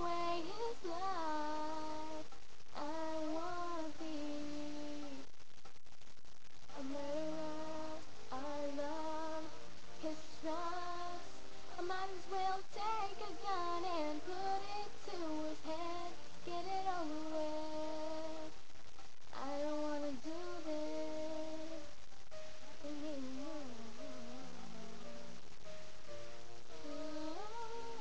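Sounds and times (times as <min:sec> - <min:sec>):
woman singing slow melody: 0:00.0 - 0:05.3, 0:06.7 - 0:18.6, 0:19.3 - 0:22.0, 0:22.8 - 0:25.4, 0:26.7 - 0:28.0.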